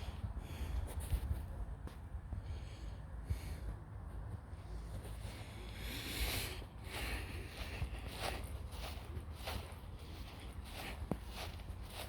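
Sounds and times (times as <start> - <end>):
footsteps on outdoor path: 0.0 - 12.0
low steady rumble: 0.0 - 12.0.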